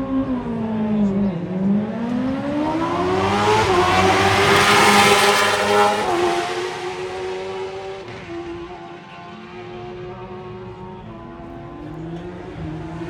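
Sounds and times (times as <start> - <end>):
racing motorcycle engine accelerating: 0.2 - 10.7.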